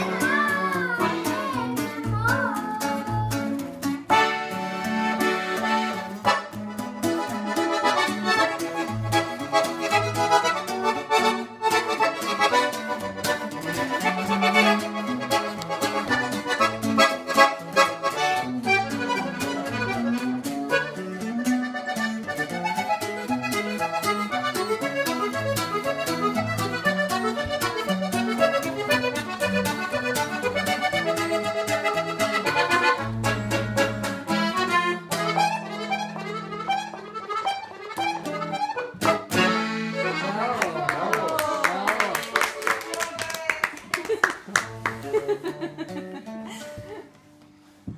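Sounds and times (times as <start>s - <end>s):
guitar strummed: 0.0s - 41.2s
accordion playing: 0.0s - 41.4s.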